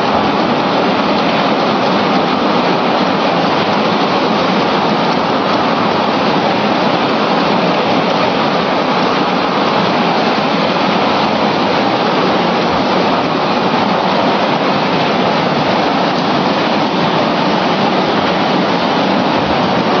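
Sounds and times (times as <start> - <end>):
machine steady rushing noise: 0.0 - 20.0.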